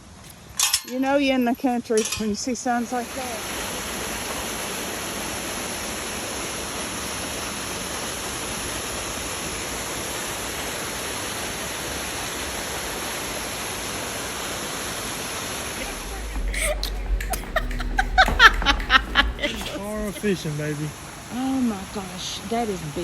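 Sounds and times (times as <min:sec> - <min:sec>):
stream rushing over rocks: 0:00.0 - 0:23.0.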